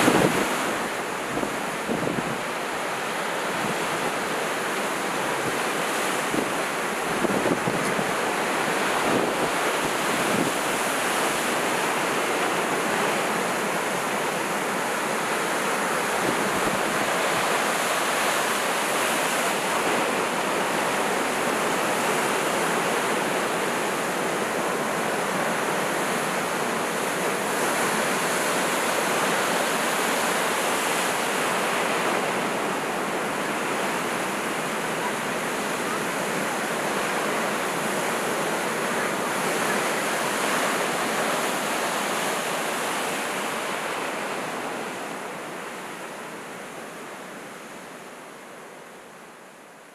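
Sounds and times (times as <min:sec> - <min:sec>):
surf rushing over rocks: 0:00.0 - 0:47.5.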